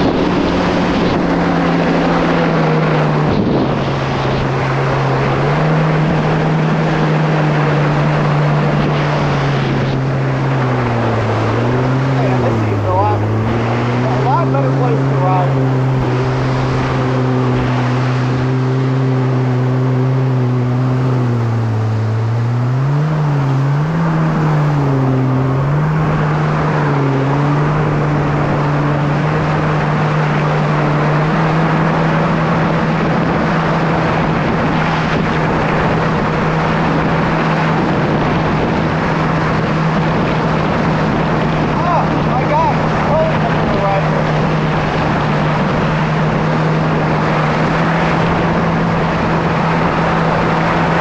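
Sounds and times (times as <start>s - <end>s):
jet ski engine running: 0.0s - 51.0s
rush of wind and water: 0.0s - 51.0s.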